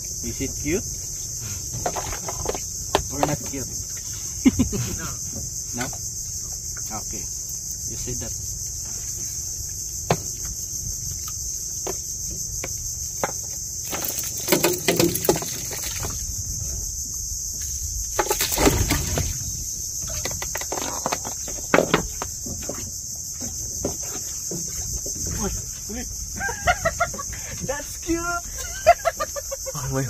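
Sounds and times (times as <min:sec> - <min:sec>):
high-pitched insect drone: 0:00.0 - 0:30.0
knocks and rustles in wooden boat: 0:00.4 - 0:04.3, 0:04.9 - 0:07.2, 0:08.7 - 0:28.0.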